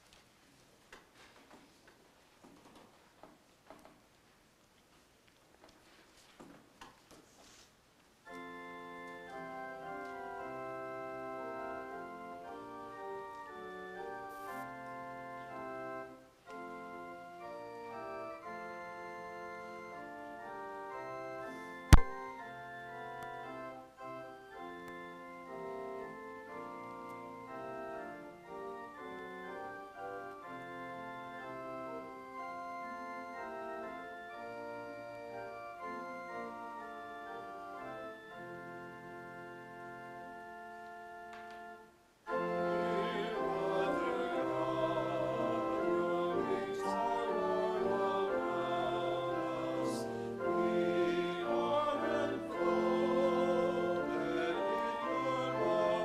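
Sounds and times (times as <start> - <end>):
church organ playing hymn: 8.2 - 56.0.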